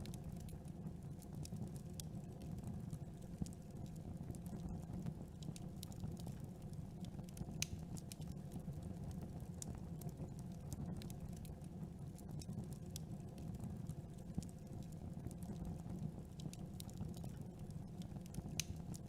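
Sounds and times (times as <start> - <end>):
burning wood crackling and popping: 0.0 - 19.0
campfire burning: 0.0 - 19.0.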